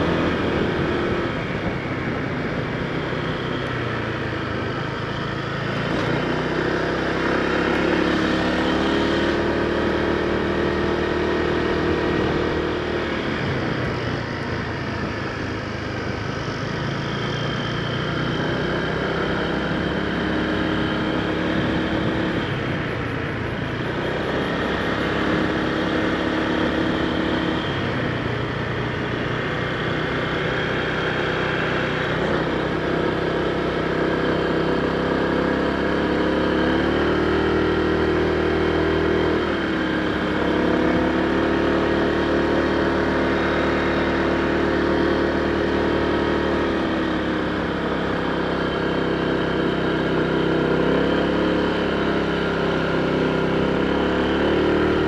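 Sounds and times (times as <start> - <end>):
scooter engine running: 0.0 - 55.0
wind and road noise: 0.0 - 55.0.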